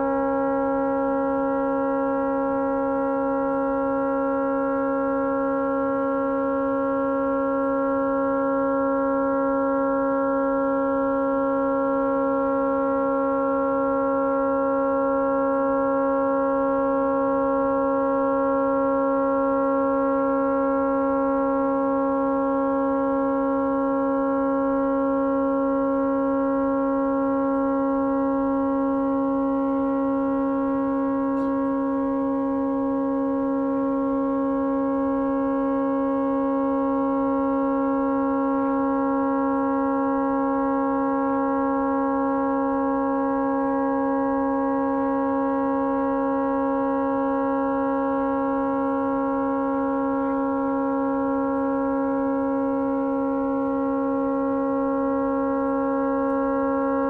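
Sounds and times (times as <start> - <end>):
tugboat horn continuous chord: 0.0 - 57.0.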